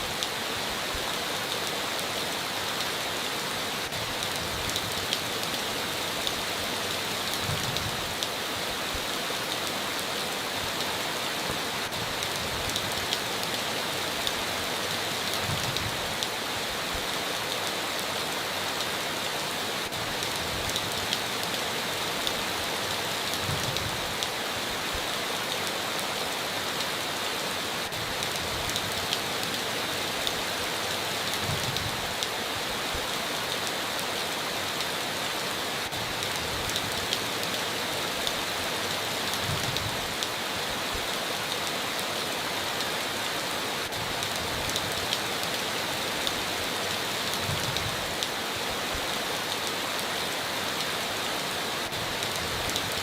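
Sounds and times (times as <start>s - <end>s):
heavy rain on a tin roof: 0.0s - 53.0s.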